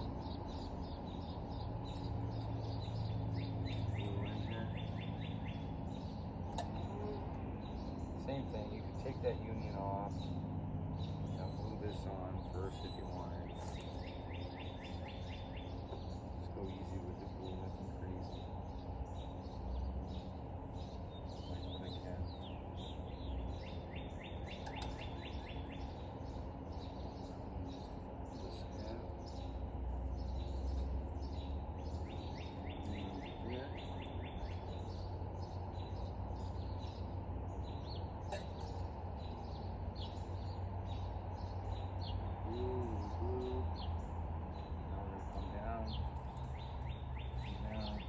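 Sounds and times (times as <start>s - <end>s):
bird trills: 0.0s - 48.0s
birds chirping: 0.0s - 48.0s
low background rumble: 0.0s - 48.0s.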